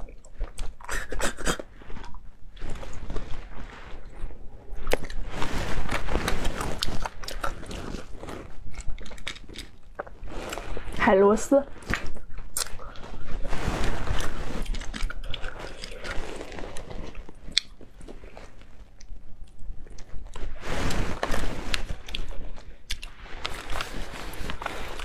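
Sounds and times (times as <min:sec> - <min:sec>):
person slurping and chewing: 0:00.0 - 0:11.0, 0:11.8 - 0:25.0.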